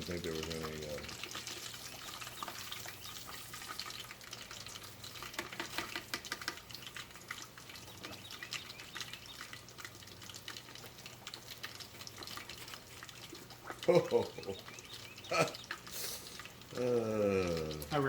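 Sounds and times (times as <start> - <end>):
hot oil crackling and sizzling: 0.0 - 18.0.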